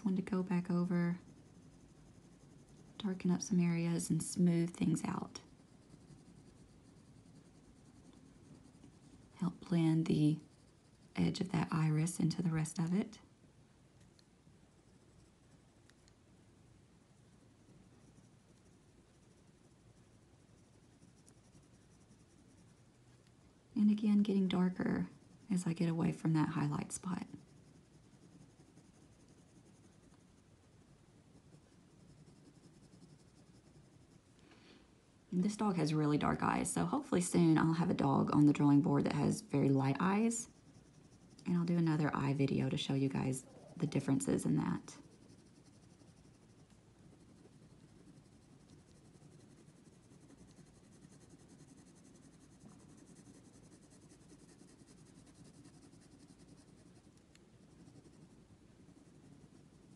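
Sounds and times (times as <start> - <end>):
pencil scratching on paper: 0.0 - 13.1, 17.6 - 23.2, 23.8 - 34.3, 35.4 - 59.9
low room hum: 0.0 - 59.9.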